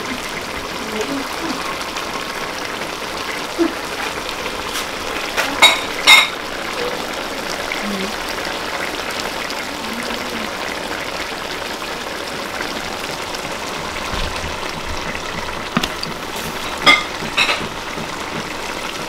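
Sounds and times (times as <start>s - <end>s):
greens sizzling in a pot: 0.0s - 19.0s.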